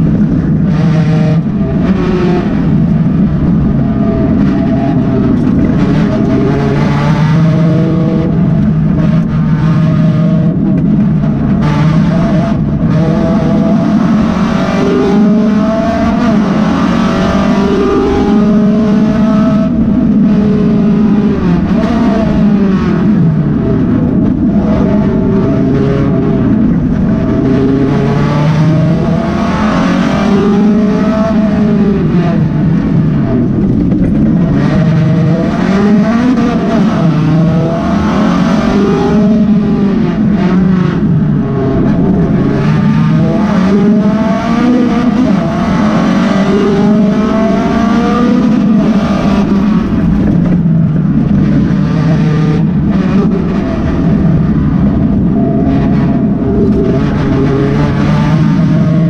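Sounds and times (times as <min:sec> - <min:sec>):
car engine under hard driving: 0:00.0 - 0:59.0.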